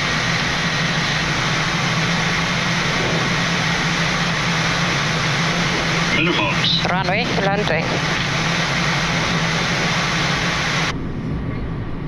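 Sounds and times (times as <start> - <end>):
airflow and air conditioning rush: 0.0 - 12.0
low drone: 0.0 - 12.0.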